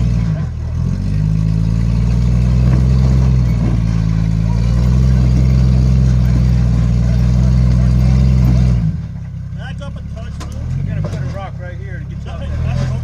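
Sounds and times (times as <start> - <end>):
off-road vehicle engine at low revs: 0.0 - 13.0.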